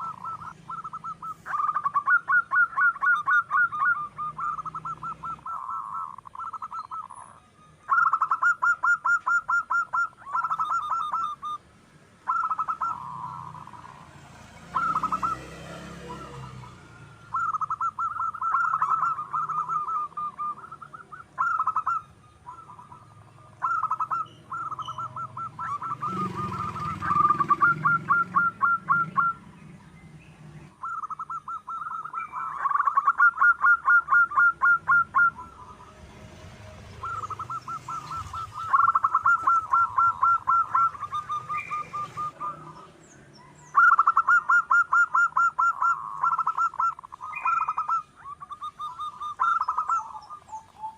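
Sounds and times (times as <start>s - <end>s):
dove cooing in staccato notes: 0.0s - 50.9s.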